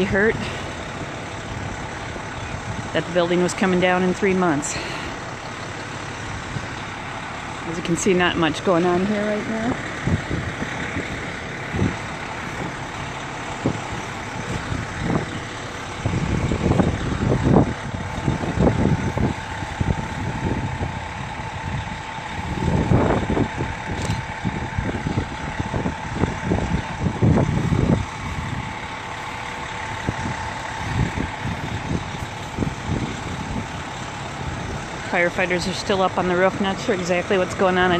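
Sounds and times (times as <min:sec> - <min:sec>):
fire trucks idling: 0:00.0 - 0:37.9
wind buffeting microphone: 0:00.0 - 0:37.9.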